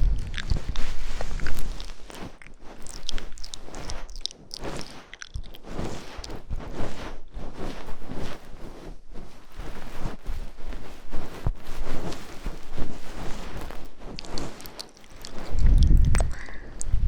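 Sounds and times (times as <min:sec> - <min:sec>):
scratching and rustling on microphone: 0:00.0 - 0:17.0.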